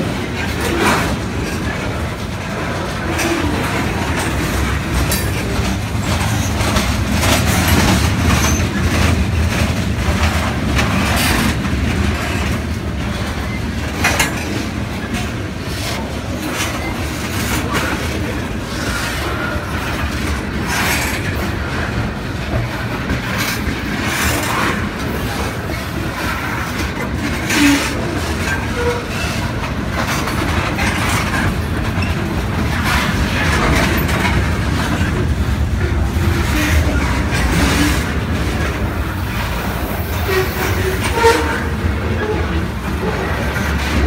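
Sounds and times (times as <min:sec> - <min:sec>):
wheels clattering over rail joints: 0:00.0 - 0:44.0.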